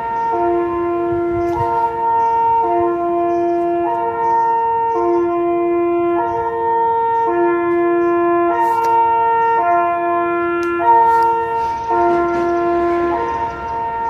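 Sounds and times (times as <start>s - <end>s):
two-tone fire siren: 0.0s - 14.0s.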